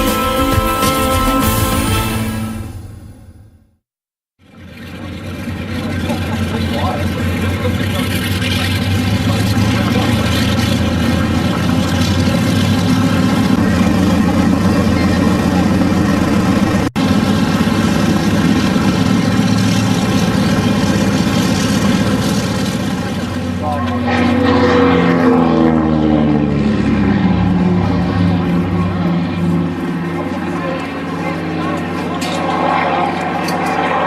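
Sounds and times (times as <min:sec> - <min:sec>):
piston aircraft engine droning: 0:04.4 - 0:34.0.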